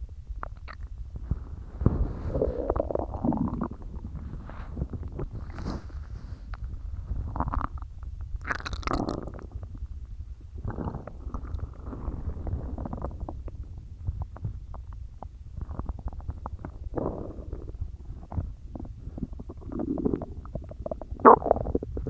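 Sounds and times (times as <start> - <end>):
stomach gurgling: 0.0 - 22.0.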